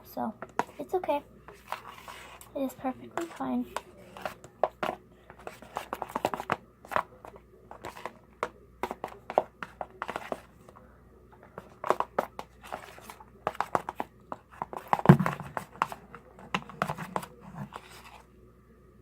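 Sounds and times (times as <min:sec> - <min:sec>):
spoon stirring sticky slime: 0:00.4 - 0:10.8, 0:11.4 - 0:18.3.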